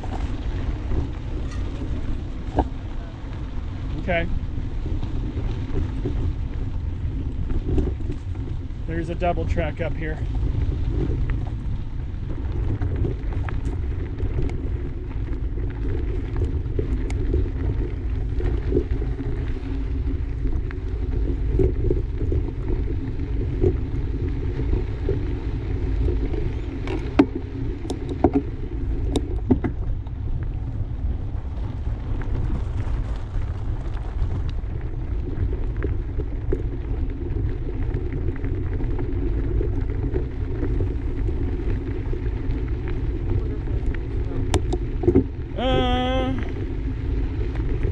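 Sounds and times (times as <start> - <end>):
bicycle clicks and rattles: 0.0 - 45.4
bicycle tyres rolling on dirt: 0.0 - 47.9
wind on microphone: 0.0 - 47.9.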